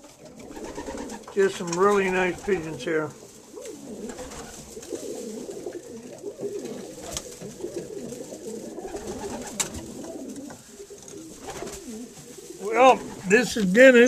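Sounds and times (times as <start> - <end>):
pigeons cooing: 0.0 - 13.6.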